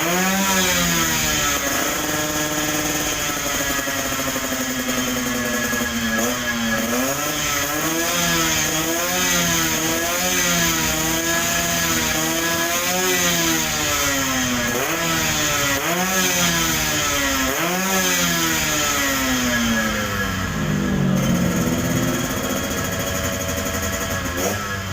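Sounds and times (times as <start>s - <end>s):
two-stroke motorcycle engine revving: 0.0s - 24.9s.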